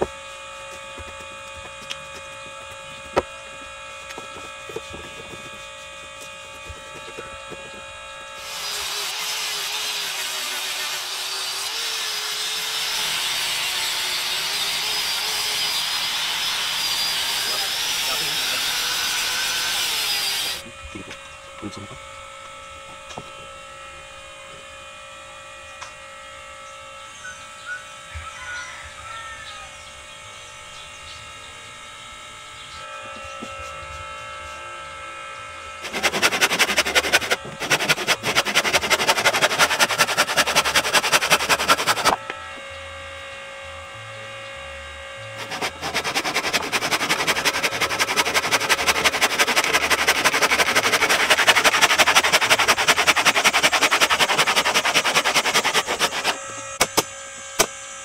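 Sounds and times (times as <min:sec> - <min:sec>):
power tool buzzing on wood: 0:00.0 - 0:27.0, 0:31.1 - 0:58.0.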